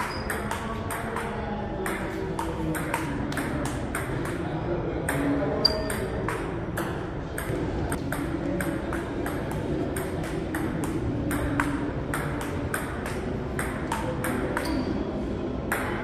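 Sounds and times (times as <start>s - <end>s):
ping-pong ball clicking off paddles: 0.0s - 15.0s.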